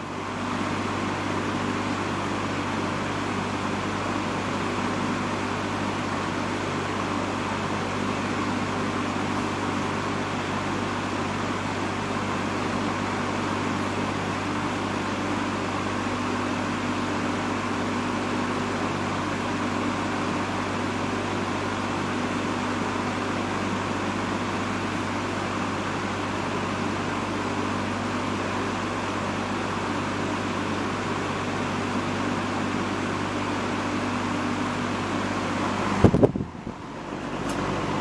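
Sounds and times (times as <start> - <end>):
box fan motor hum: 0.0 - 38.0
rush of air from fan: 0.0 - 38.0.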